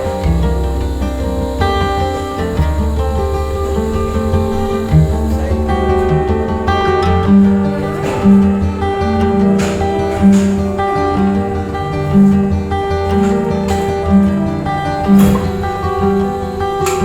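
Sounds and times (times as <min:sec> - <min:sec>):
acoustic guitar music with bass: 0:00.0 - 0:17.0.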